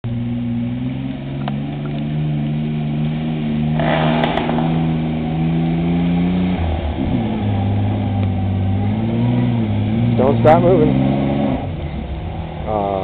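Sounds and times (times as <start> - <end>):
truck engine revving hard: 0.2 - 13.0.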